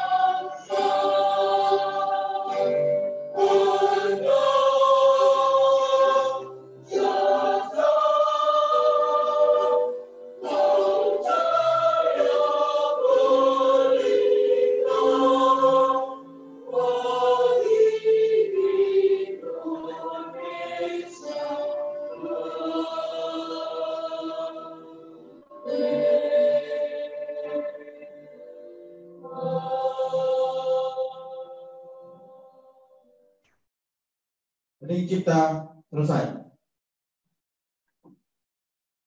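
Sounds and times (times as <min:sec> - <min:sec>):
choir singing slow anthem: 0:00.0 - 0:32.6.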